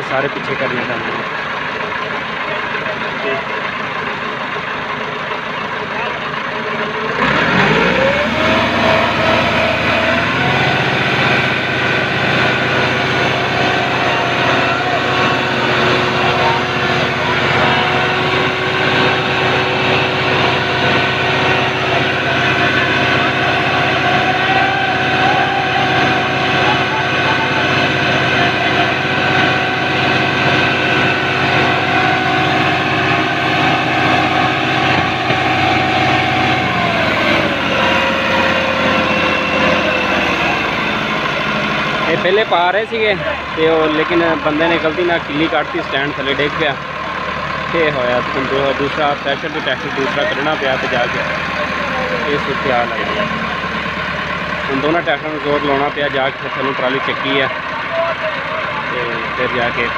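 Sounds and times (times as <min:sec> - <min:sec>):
tractor diesel engines straining: 0:00.0 - 0:59.9.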